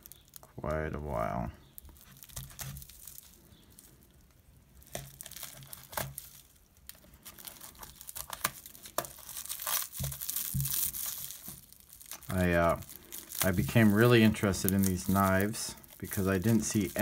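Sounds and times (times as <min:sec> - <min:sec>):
plastic wrapping crinkling and tearing: 0:00.0 - 0:17.0.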